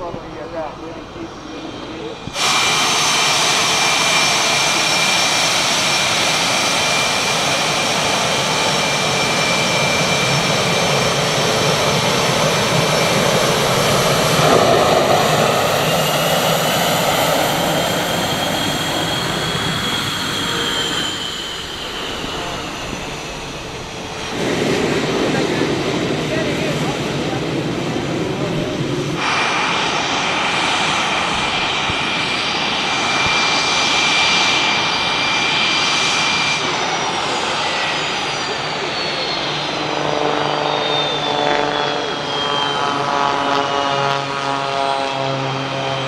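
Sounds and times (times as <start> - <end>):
jet engines whining: 0.0 - 46.0.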